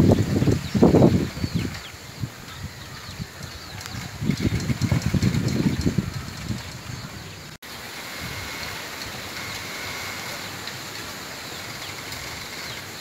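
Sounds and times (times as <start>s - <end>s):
wind rustling bamboo leaves: 0.0s - 13.0s.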